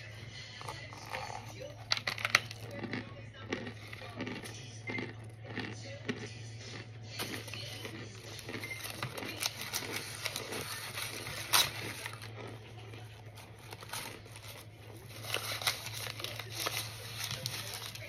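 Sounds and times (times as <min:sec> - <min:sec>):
crunchy food being chewed: 0:00.0 - 0:18.0
low steady hum: 0:00.0 - 0:18.0.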